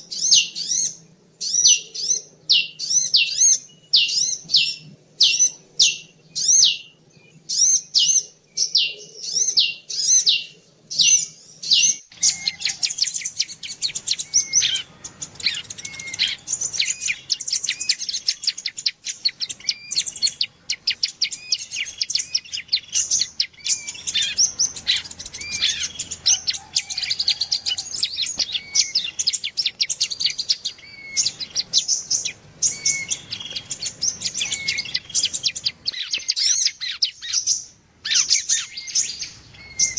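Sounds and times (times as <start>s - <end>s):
birds chirping and trilling: 0.0s - 39.9s
loud sharp bird chirp: 0.0s - 39.9s.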